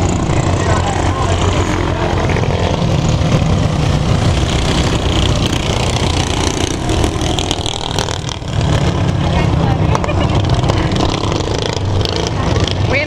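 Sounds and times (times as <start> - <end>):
minibike engines droning: 0.0 - 13.0.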